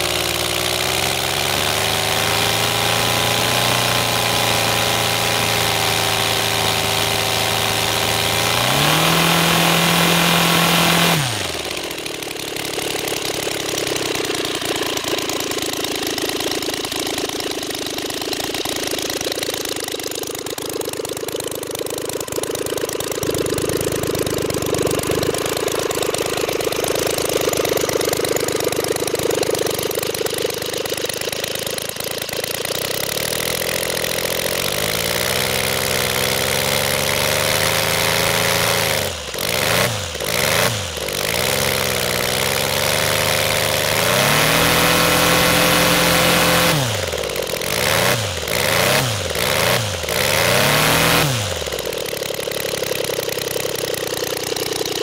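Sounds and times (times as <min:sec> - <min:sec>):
model aircraft engine running: 0:00.0 - 0:55.0.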